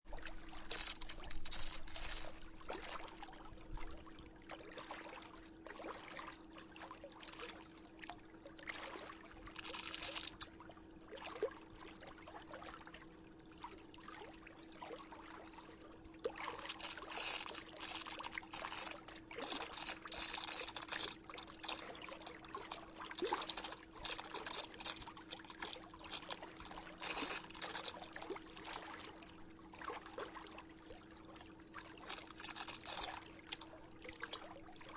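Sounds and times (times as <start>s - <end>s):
pool filter hum: 0.0s - 34.9s
water splashing and trickling: 0.1s - 13.0s, 13.6s - 34.9s.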